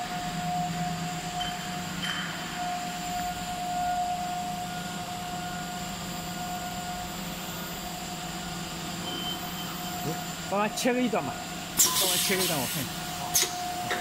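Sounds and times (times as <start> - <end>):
constant high whine: 0.0 - 11.8, 12.5 - 14.0
machinery hum: 0.0 - 14.0.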